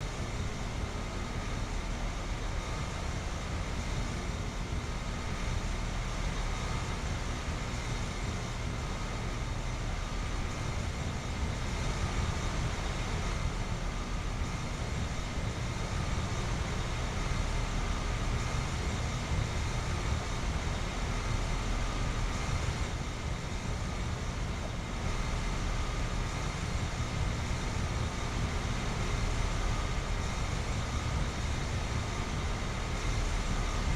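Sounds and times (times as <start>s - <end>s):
compressor humming: 0.0s - 33.9s
condenser fan blowing: 0.0s - 33.9s
faint high whine: 0.0s - 33.9s.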